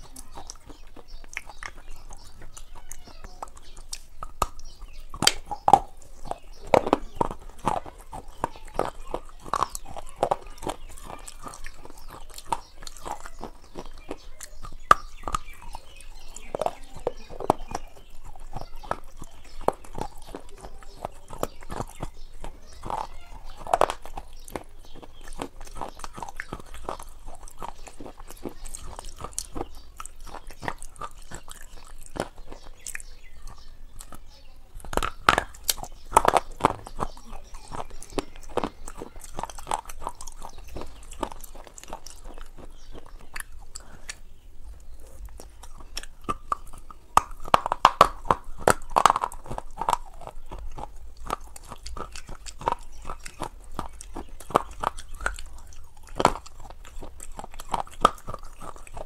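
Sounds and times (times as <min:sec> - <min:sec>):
crunching and chewing food: 0:00.0 - 0:59.0.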